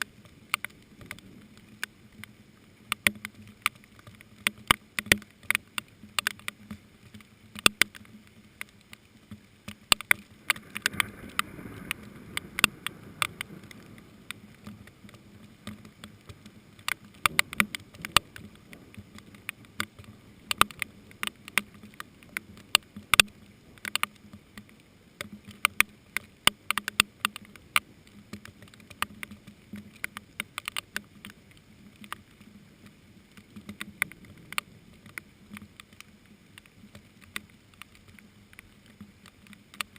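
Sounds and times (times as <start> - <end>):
faint rain patter: 0.0 - 39.9
large raindrops tapping: 0.0 - 39.9.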